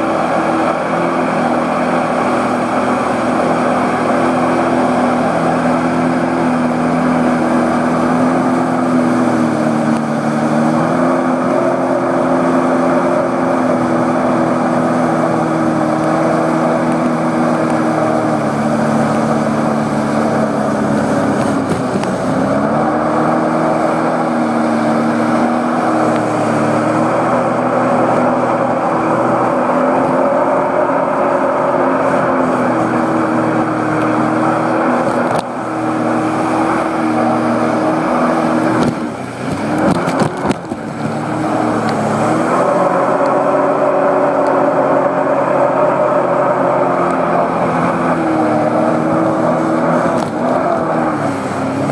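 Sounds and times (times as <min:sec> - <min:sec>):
rush of water and wind: 0:00.0 - 0:51.9
watercraft engine running: 0:00.0 - 0:51.9.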